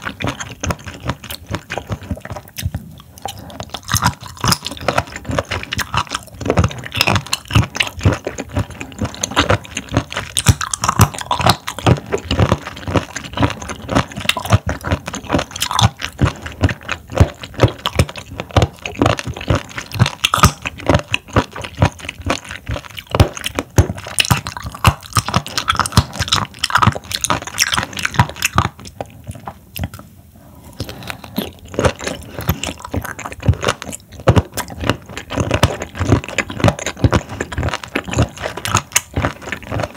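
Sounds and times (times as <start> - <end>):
chewing and crunching seafood: 0.0 - 39.9.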